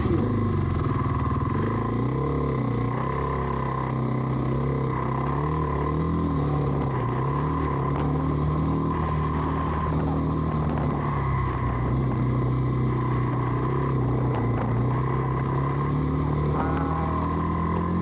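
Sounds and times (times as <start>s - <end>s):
high whine: 0.0s - 18.0s
motorcycle engine under load: 0.0s - 18.0s.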